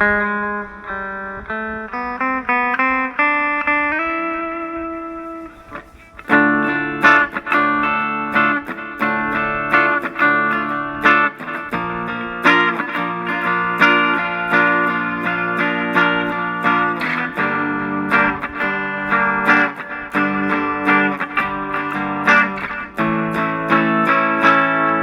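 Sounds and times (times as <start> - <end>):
clean electric guitar picking: 0.0 - 25.0
electric guitar strummed chords: 0.0 - 25.0.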